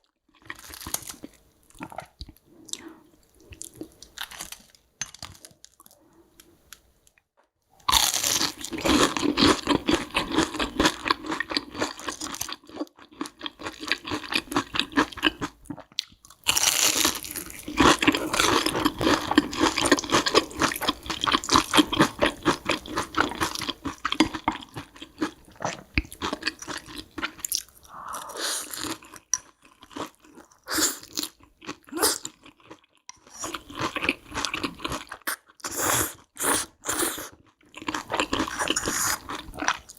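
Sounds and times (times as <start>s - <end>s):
crunching and chewing food: 0.1s - 6.8s, 7.8s - 27.9s, 28.6s - 39.9s.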